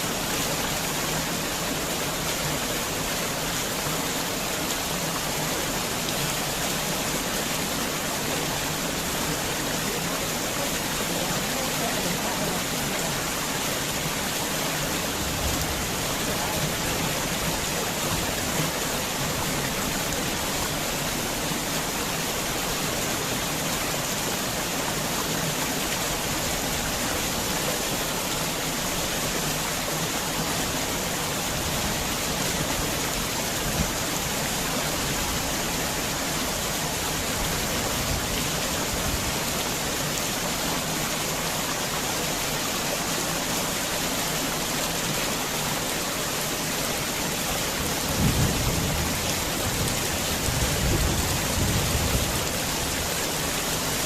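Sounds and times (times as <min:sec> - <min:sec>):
heavy rain on garden house: 0:00.0 - 0:54.0.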